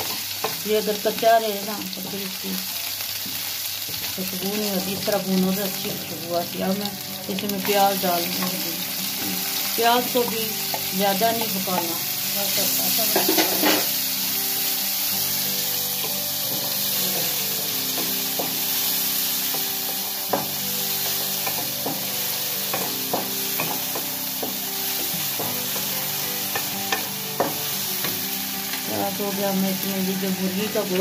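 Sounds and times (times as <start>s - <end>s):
onion sizzling in a pan: 0.0s - 31.0s.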